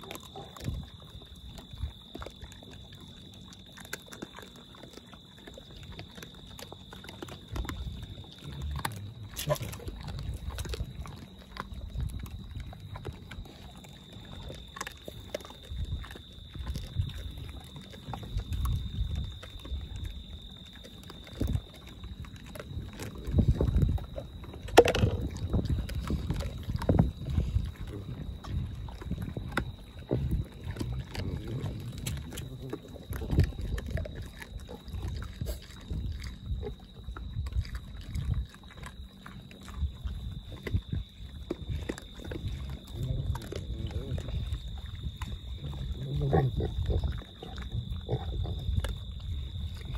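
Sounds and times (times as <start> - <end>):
animals snuffling: 0.0 - 49.9
chewing clicks: 0.0 - 49.9.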